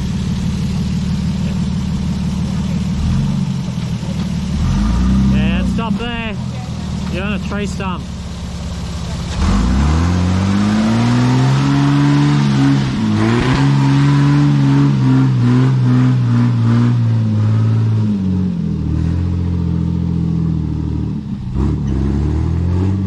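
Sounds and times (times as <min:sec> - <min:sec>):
truck engine revving hard: 0:01.2 - 0:08.1, 0:08.9 - 0:23.0.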